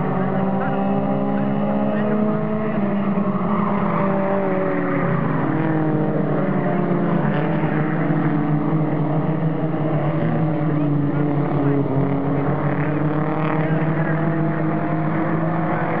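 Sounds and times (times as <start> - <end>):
race car engines: 0.0 - 16.0.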